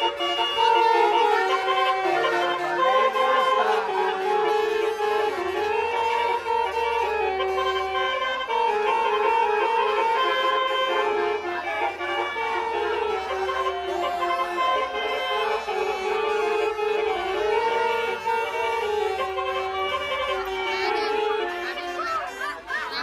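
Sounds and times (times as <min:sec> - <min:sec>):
reedy melody of long notes: 0:00.0 - 0:23.0.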